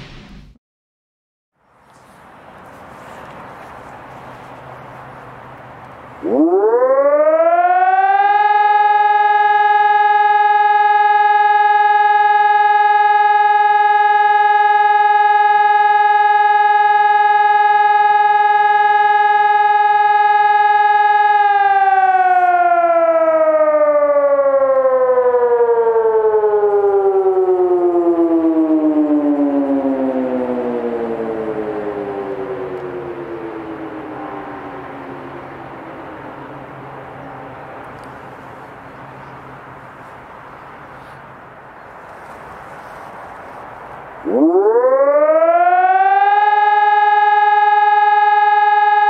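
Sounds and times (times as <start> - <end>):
electronic siren: 5.6 - 49.0.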